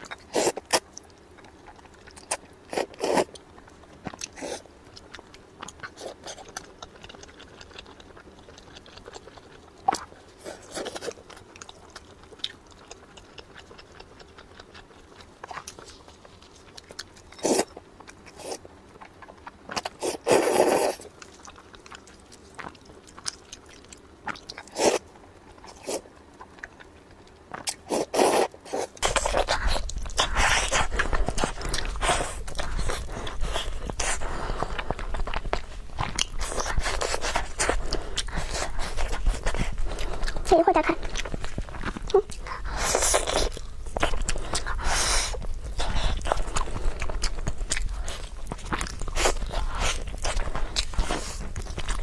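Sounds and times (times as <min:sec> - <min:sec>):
person chewing and crunching: 0:00.0 - 0:52.0.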